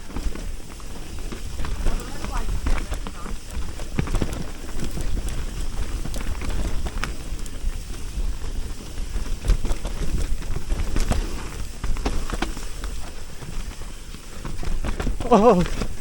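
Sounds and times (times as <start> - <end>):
bike rattling over bumps: 0.0 - 16.0
tyres and wind rumble: 0.0 - 16.0.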